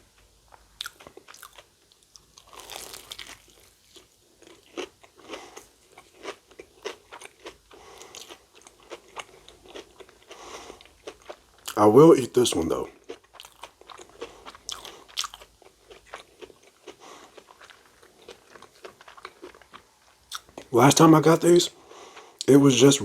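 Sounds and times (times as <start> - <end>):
crunchy chewing and biting: 0.2 - 11.8, 12.8 - 20.7.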